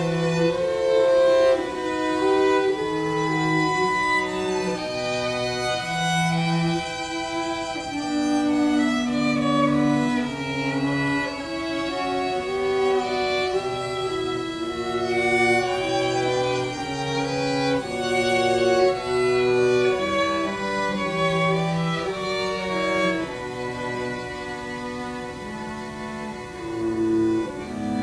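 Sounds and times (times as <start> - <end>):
string quartet playing slowly: 0.0 - 28.0.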